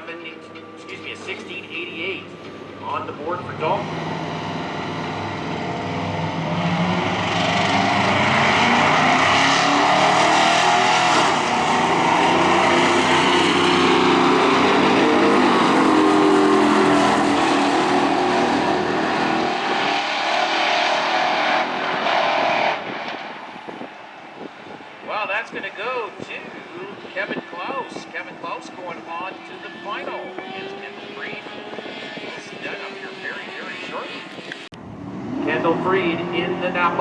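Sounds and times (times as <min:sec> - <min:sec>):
truck engines at full throttle: 0:00.0 - 0:37.0.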